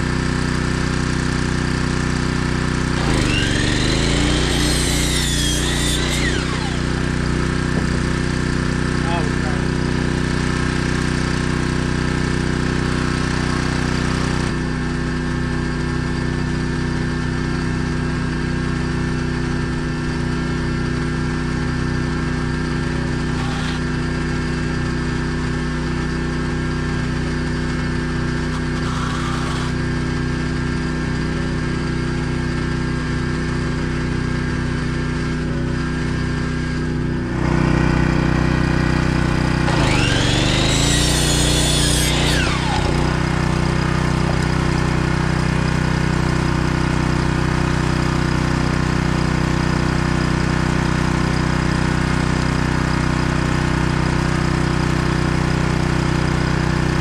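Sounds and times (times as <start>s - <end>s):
generator engine hum: 0.0s - 57.0s.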